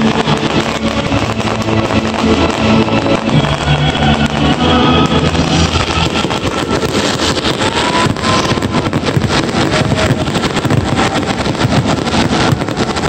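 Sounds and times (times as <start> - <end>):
fireworks crackling and popping: 0.0 - 13.0
loud music: 0.0 - 13.0.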